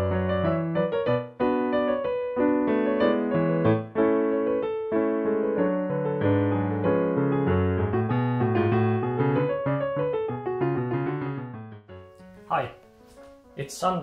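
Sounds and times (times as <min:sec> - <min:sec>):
digital piano melody: 0:00.0 - 0:14.0.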